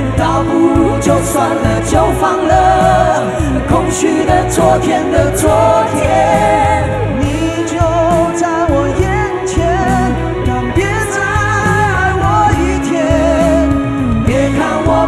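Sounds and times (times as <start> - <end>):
band playing: 0.0 - 15.0
man singing into microphone: 0.0 - 15.0.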